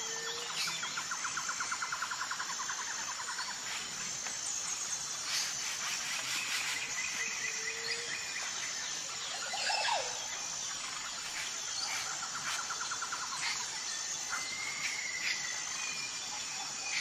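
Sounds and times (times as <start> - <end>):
high insect buzz: 0.0 - 17.0.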